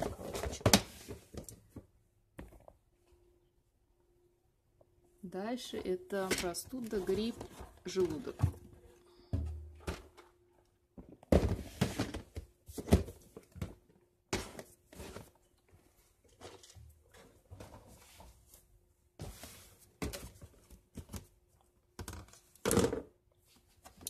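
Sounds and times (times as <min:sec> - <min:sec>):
rummaging through medicine packages: 0:00.0 - 0:02.8, 0:06.2 - 0:23.0.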